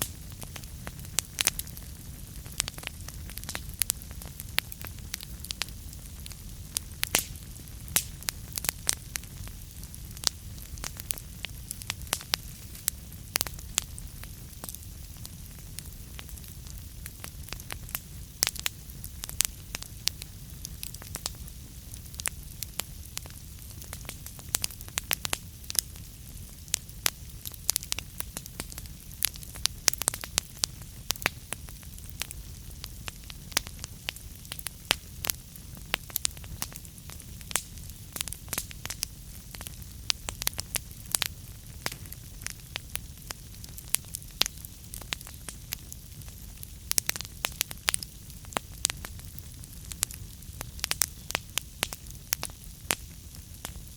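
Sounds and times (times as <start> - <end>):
fire crackling and popping: 0.0 - 53.9
wood fire rumbling and hissing: 0.0 - 53.9.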